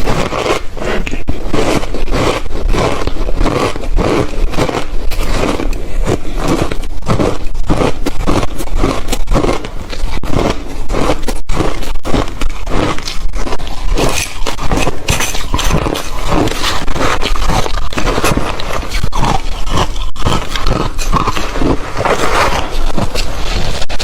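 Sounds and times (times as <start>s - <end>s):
ice crunching while chewed: 0.0s - 24.0s.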